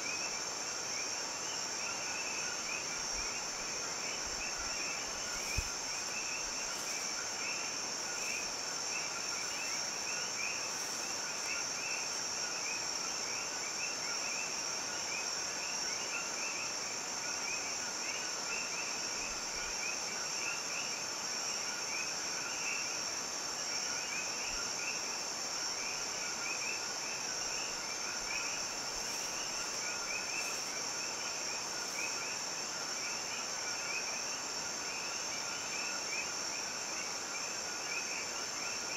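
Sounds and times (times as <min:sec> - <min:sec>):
high-pitched insect drone: 0:00.0 - 0:38.9
insects chirring: 0:00.0 - 0:38.9.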